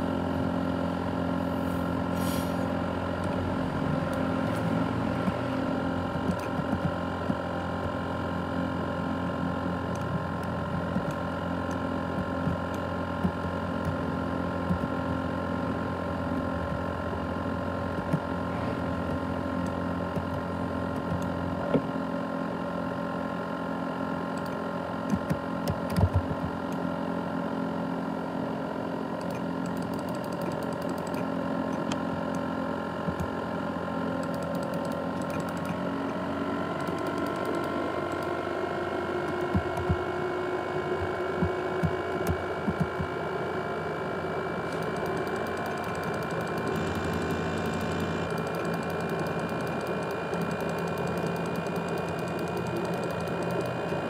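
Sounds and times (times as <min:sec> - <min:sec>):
laptop cooling fan whirring: 0:00.0 - 0:54.0.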